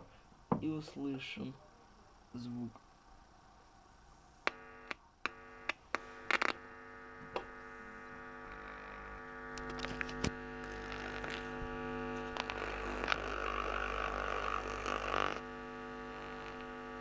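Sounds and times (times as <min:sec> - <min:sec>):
buzzy mains hum from loudspeaker: 0:00.0 - 0:17.0.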